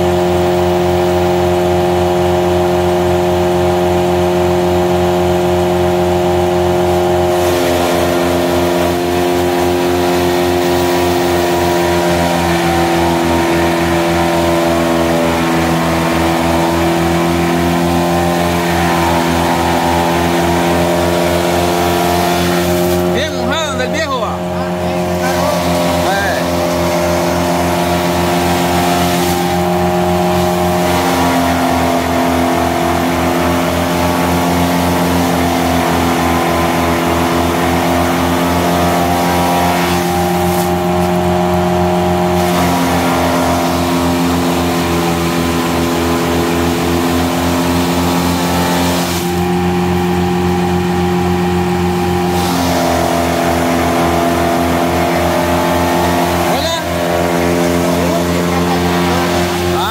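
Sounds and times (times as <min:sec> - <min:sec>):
forage chopper chopping grass: 0:00.0 - 0:59.9
tractor engine running: 0:00.0 - 0:59.9.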